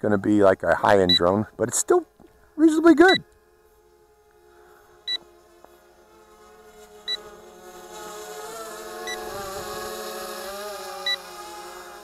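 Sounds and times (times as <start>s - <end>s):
drone motors humming: 0.0s - 12.0s.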